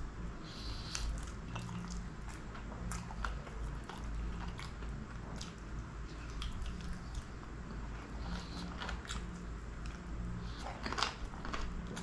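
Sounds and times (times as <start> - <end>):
person chewing meat: 0.4 - 12.0.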